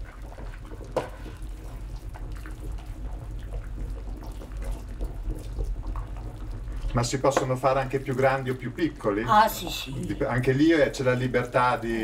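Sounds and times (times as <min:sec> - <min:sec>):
pot of water bubbling: 0:00.0 - 0:12.0
wet squishing of dough: 0:00.0 - 0:12.0
steady low hum: 0:01.1 - 0:11.9.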